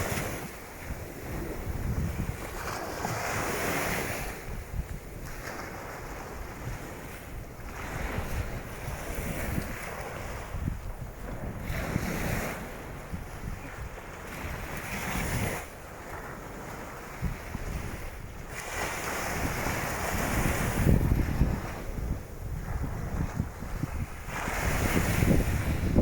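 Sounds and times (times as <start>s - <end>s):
waves washing onto beach: 0.0s - 26.0s
wind buffeting microphone: 0.0s - 26.0s.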